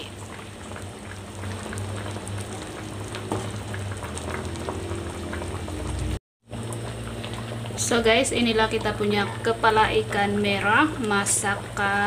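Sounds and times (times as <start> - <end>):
curry bubbling and crackling: 0.0 - 12.0.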